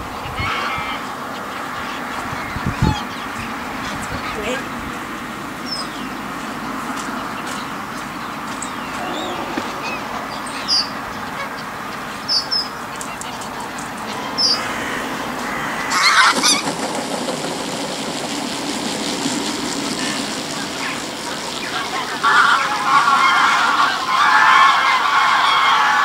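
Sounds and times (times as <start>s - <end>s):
flock of geese calling: 0.0s - 18.4s, 19.0s - 26.0s
wingbeats of geese taking off: 0.0s - 26.0s
geese honking: 0.1s - 26.0s.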